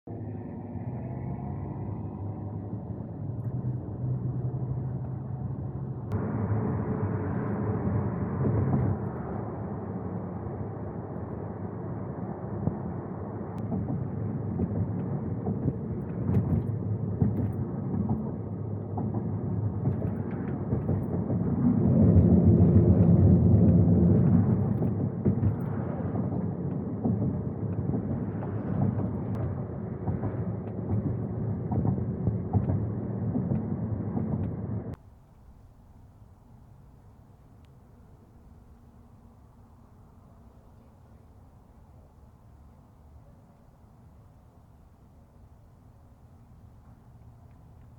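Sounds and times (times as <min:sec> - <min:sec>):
vehicle engine rumbling: 0:00.1 - 0:47.9.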